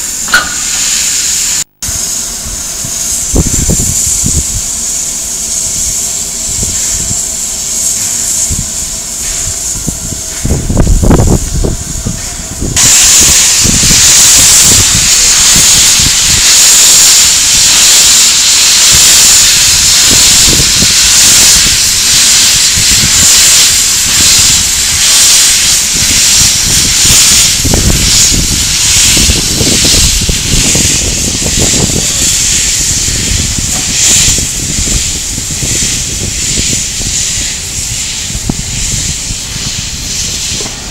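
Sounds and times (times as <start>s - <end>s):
steam locomotive hissing: 0.0s - 40.9s.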